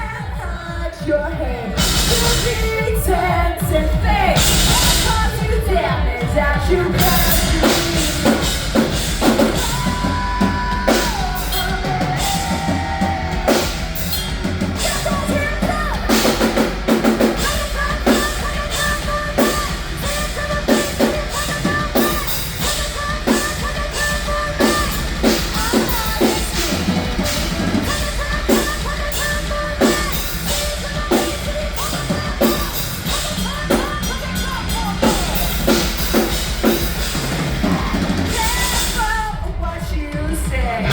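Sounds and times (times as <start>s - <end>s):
drum kit beat: 0.0s - 40.9s
live rock band playing: 1.6s - 39.6s, 40.6s - 40.9s.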